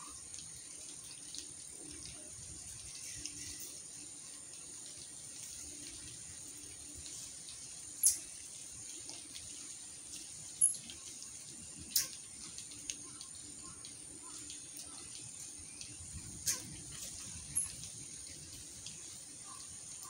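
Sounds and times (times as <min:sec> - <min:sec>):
sharp drip-like clicks: 0:00.0 - 0:20.0
steady high hiss: 0:00.0 - 0:20.0.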